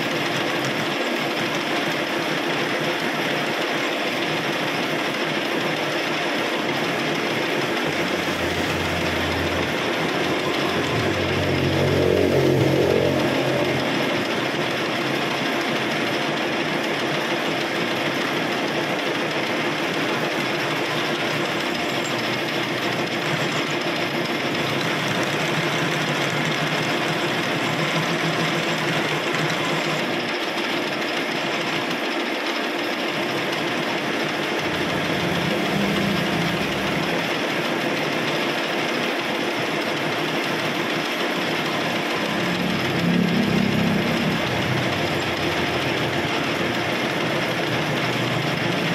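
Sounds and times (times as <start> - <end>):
metal lathe running: 0.0 - 48.9.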